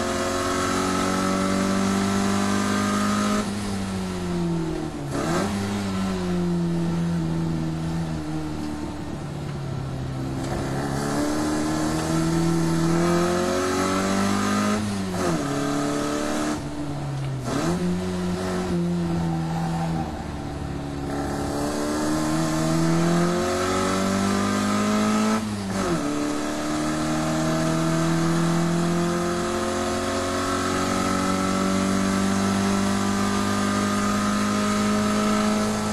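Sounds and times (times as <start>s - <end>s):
car engine revving hard: 0.0s - 3.7s, 5.1s - 8.7s, 10.4s - 16.6s, 17.4s - 19.2s, 21.0s - 35.9s.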